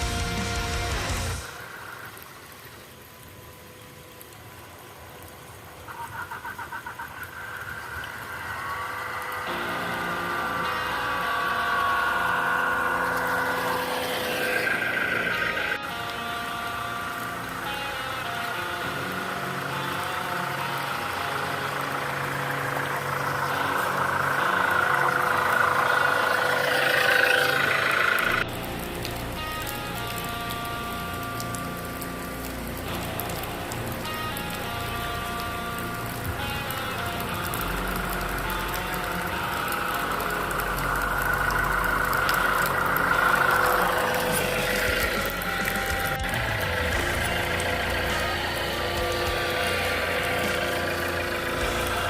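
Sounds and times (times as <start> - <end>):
small electric motor whine: 7.4 - 52.0.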